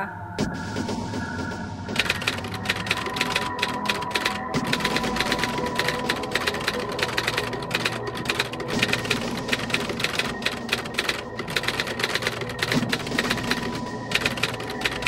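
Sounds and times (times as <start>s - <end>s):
typewriter keys clacking: 1.9s - 15.0s.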